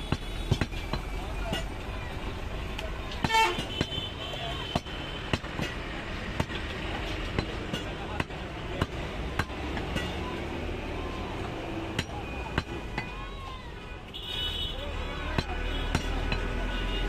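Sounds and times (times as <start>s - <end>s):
street noise: 0.0s - 17.0s
voices: 0.0s - 17.0s.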